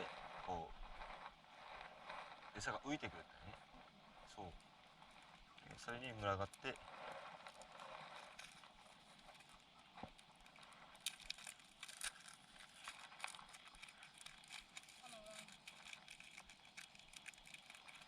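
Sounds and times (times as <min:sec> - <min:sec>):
faint steady hiss: 0:00.0 - 0:18.0
small clicks and ticks: 0:00.0 - 0:18.0.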